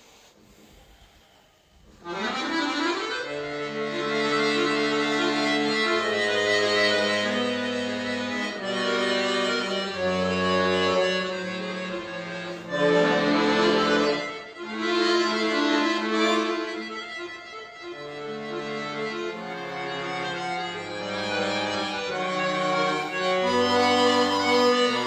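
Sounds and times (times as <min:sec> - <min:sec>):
solo accordion classical piece: 0:01.8 - 0:25.0.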